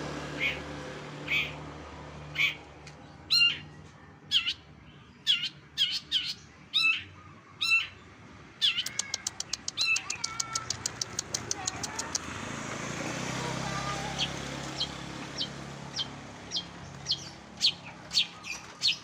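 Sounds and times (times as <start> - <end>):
songbird calling: 0.3 - 0.6, 1.2 - 1.6, 2.3 - 8.0, 8.6 - 12.3, 13.8 - 19.0.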